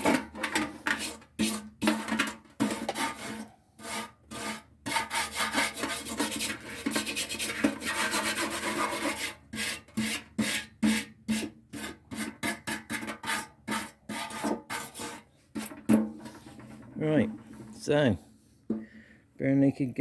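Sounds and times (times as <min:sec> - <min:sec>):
hand scrubbing paint off metal: 0:00.0 - 0:18.8.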